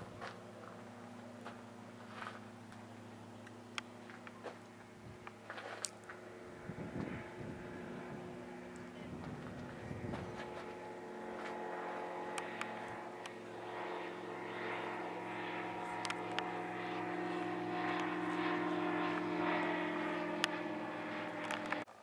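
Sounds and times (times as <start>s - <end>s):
propeller aircraft engine hum: 0.0s - 22.0s.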